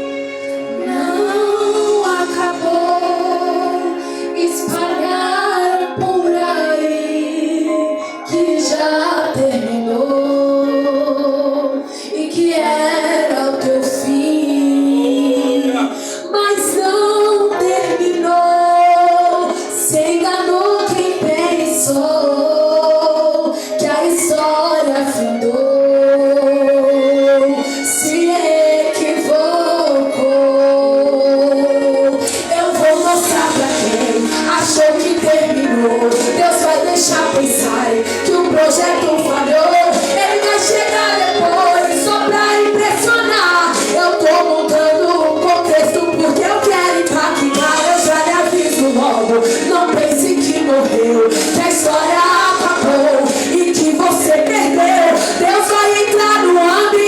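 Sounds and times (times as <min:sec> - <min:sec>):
instrumental accompaniment: 0:00.0 - 0:57.0
woman singing worship song: 0:00.0 - 0:57.0.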